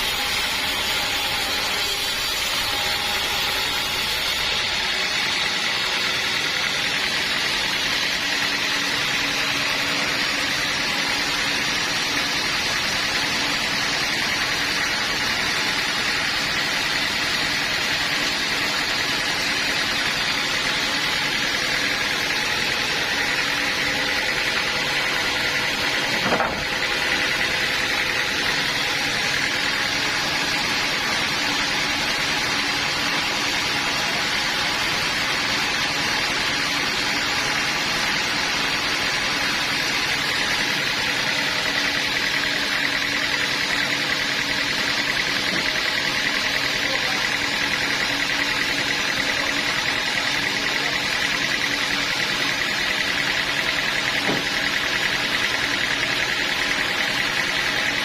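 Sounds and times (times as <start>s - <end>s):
sawmill machinery droning: 0.0s - 58.0s.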